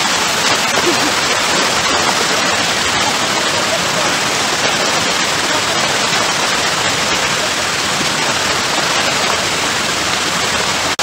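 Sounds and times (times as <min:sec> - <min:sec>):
water rushing over a weir: 0:00.0 - 0:11.0.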